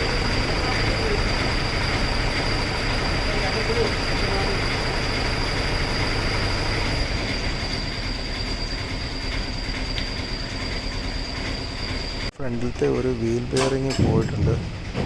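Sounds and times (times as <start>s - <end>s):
dense rushing machinery noise: 0.0s - 15.0s
high-pitched machine whine: 0.0s - 15.0s.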